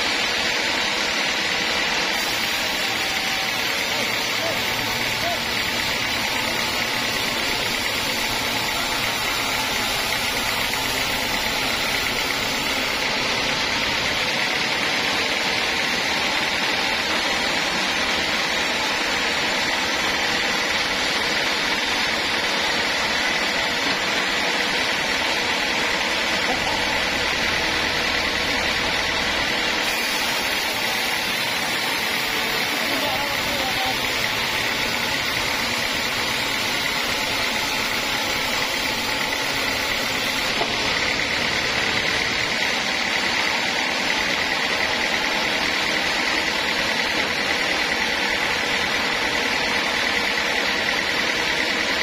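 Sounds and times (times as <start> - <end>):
band saw cutting wood: 0.0 - 52.0.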